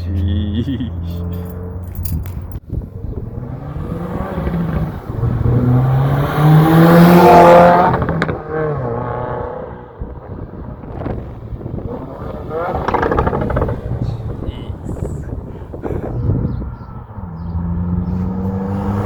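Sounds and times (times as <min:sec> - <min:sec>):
car exhaust revving hard: 0:02.9 - 0:19.0.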